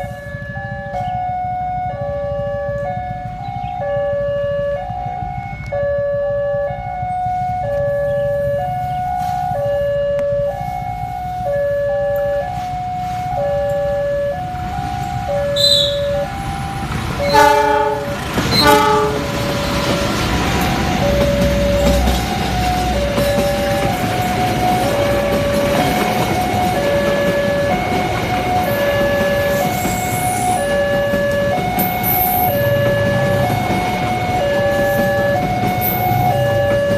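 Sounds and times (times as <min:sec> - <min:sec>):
level crossing two-tone alarm: 0:00.0 - 0:36.9
passing train rumble: 0:00.0 - 0:36.9.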